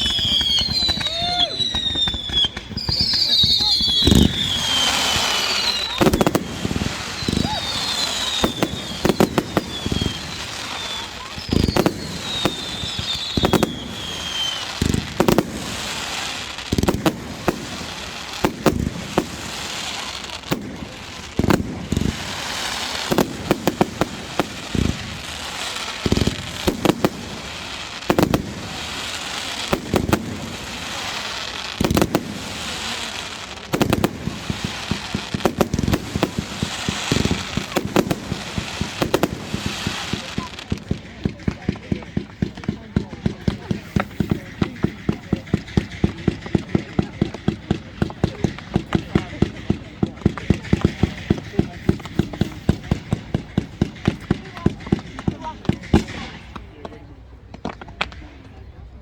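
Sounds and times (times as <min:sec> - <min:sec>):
whistling firework: 0:00.0 - 0:58.8
fireworks crackling: 0:00.0 - 0:59.0.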